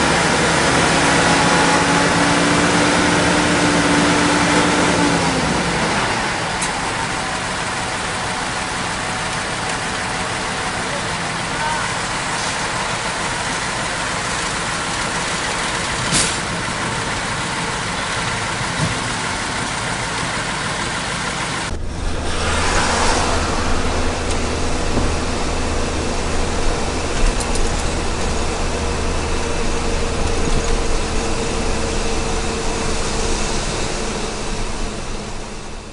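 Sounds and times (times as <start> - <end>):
diesel truck engine running: 0.0 - 35.9
road noise from driving vehicle: 0.0 - 35.9.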